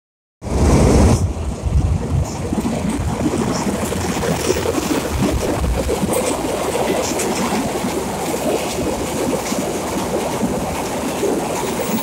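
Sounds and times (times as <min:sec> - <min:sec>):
freight train rumbling over bridge: 0:00.4 - 0:12.0
wheels squeaking and clicking on rails: 0:02.1 - 0:12.0.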